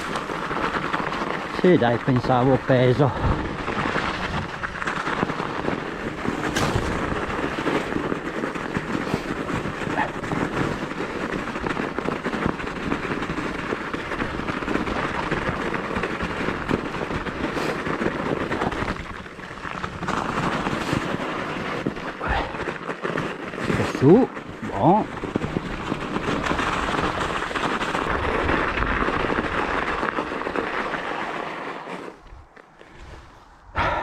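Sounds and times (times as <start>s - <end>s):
bike knocking over bumps: 0.0s - 31.6s
bike rattling: 0.0s - 34.0s
bike tyres crunching snow: 0.0s - 34.0s.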